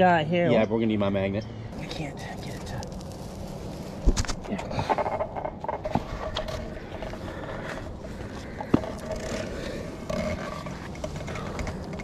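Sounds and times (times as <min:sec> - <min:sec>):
rough scraping and rustling: 0:01.8 - 0:12.0.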